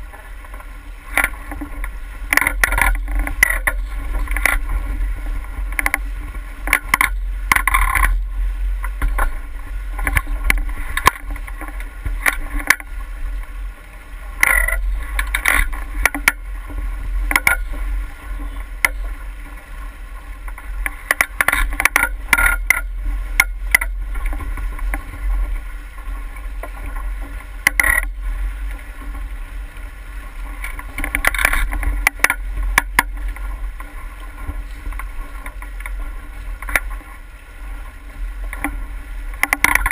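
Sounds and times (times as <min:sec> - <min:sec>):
water slapping boat hull: 0:00.0 - 0:39.9.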